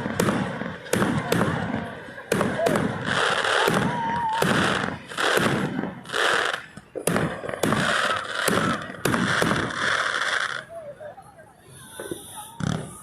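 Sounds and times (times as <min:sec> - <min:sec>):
fireworks sharp bangs: 0:00.0 - 0:10.7, 0:11.9 - 0:13.0
fireworks crackling: 0:00.0 - 0:13.0.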